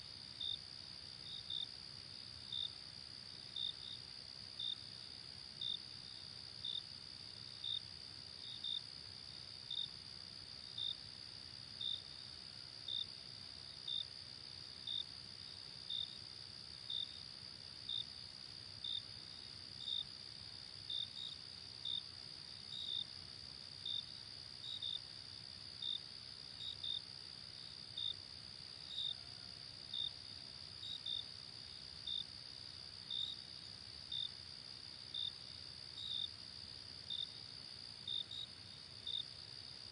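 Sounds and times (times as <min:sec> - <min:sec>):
nearby cricket chirping: 0:04.6 - 0:39.9.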